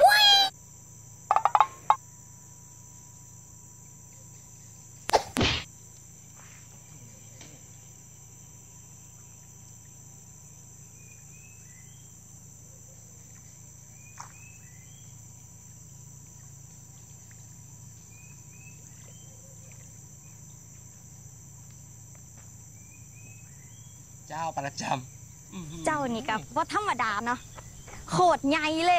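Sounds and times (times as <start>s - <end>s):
crickets droning: 0.1s - 28.9s.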